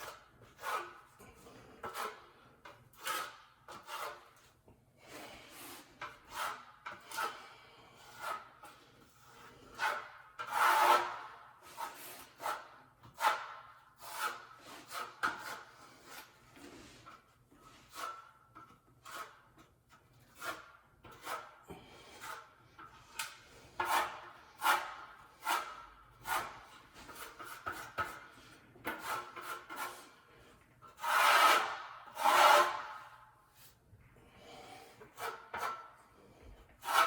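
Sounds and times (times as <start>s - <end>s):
hand scraping a surface: 0.0s - 33.9s, 34.5s - 37.0s.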